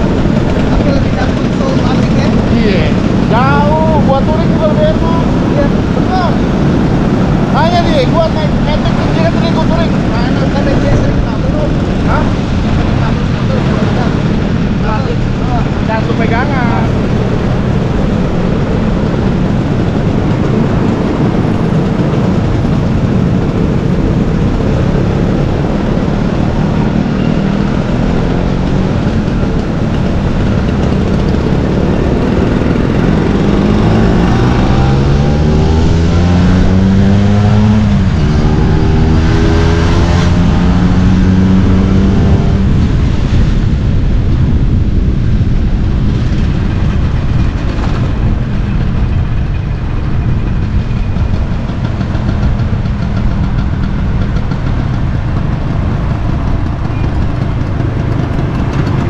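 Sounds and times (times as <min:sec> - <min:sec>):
road noise: 0:00.0 - 0:59.0
scooter engine running: 0:00.0 - 0:59.0
wind noise: 0:00.0 - 0:59.0.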